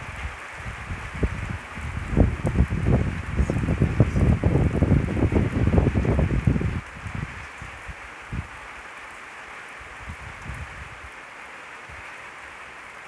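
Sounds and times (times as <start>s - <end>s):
rain on a wet street: 0.0s - 13.0s.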